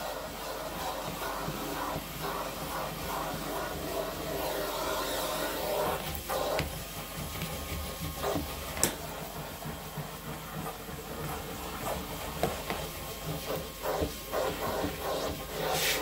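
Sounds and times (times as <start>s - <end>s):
shop vacuum running: 0.0s - 16.0s.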